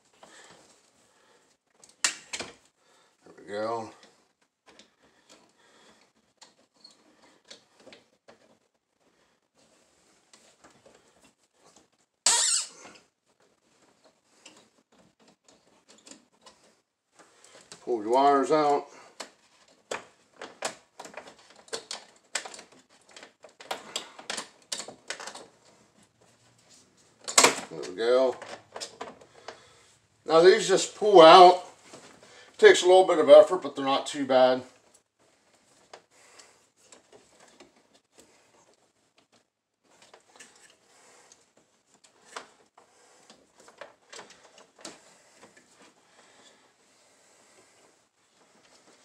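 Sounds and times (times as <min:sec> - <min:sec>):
wires clicking and scraping: 0:00.0 - 0:49.0.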